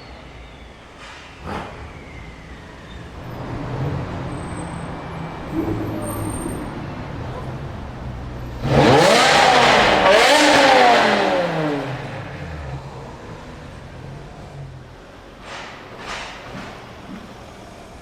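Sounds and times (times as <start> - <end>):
car engine accelerating hard: 1.4 - 16.3.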